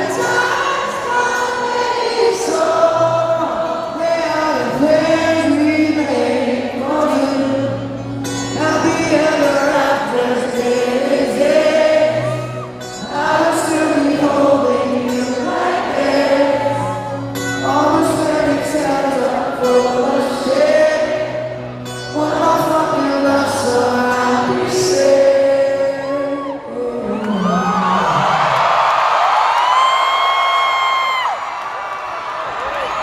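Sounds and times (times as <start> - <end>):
acoustic guitar: 0.0 - 28.3
live band performing: 0.0 - 28.6
male lead vocals: 0.0 - 28.6.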